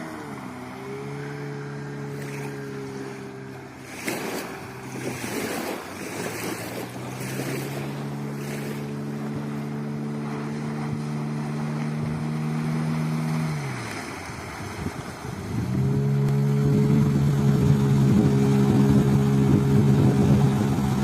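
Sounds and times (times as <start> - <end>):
outboard motor running: 0.0 - 21.0
wind on microphone: 1.8 - 21.0.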